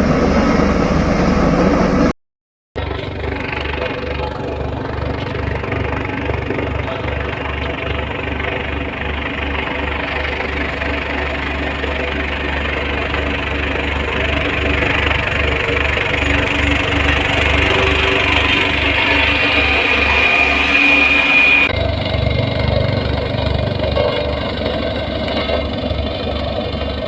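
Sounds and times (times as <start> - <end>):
heavy machinery engine throbbing: 0.0 - 2.1, 2.8 - 27.0.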